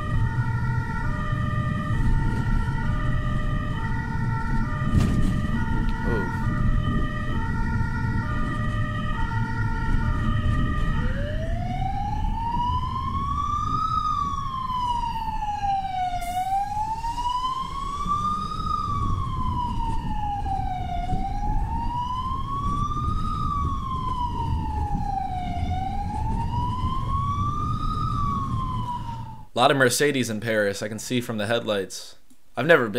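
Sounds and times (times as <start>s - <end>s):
emergency vehicle siren: 0.0s - 29.6s.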